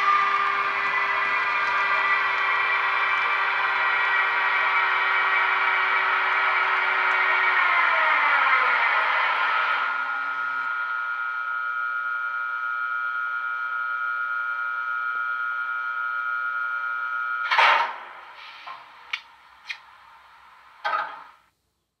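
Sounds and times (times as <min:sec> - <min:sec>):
electric hum with high whine: 0:00.0 - 0:21.5.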